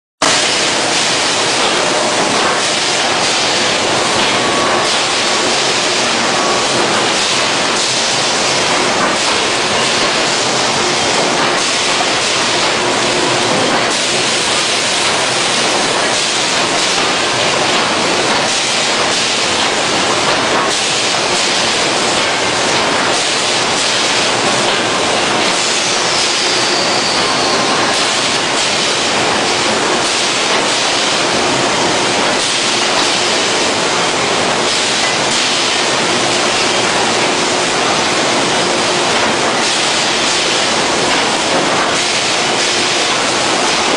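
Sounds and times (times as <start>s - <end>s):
industrial machinery roar: 0.2s - 43.9s.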